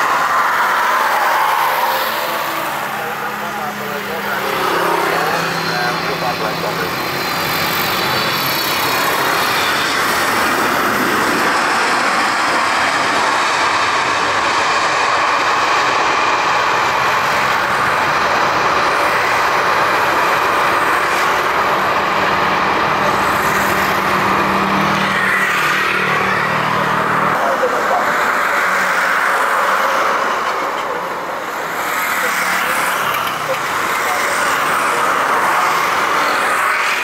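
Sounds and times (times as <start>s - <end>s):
jet engines running loud: 0.0s - 37.0s.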